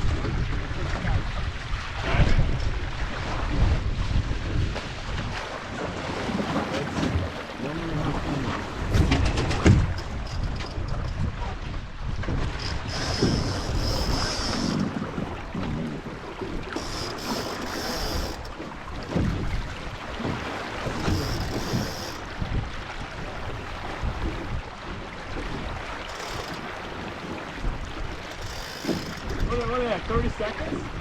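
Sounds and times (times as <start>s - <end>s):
water washing along hull: 0.0s - 31.0s
wind buffeting microphone: 0.0s - 31.0s.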